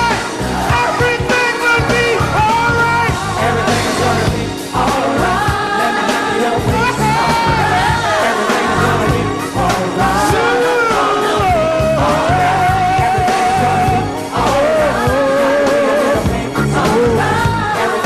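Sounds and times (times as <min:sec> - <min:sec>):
backing band with bass line: 0:00.0 - 0:18.0
gospel choir singing: 0:00.0 - 0:18.0.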